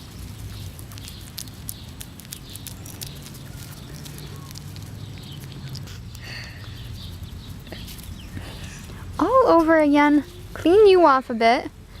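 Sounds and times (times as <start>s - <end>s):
rustling and clicking in grass: 0.0s - 10.6s.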